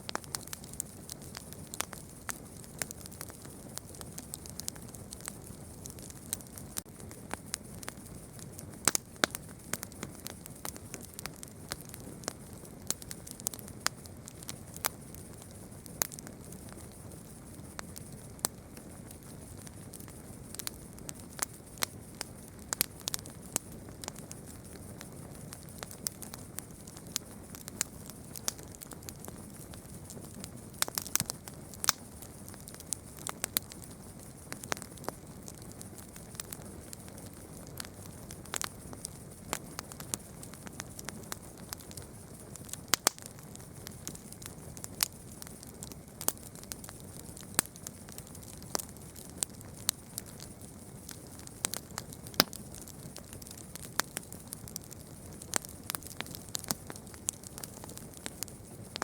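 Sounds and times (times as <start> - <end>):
low hiss of flames: 0.0 - 59.0
wood crackling and popping: 0.0 - 59.0.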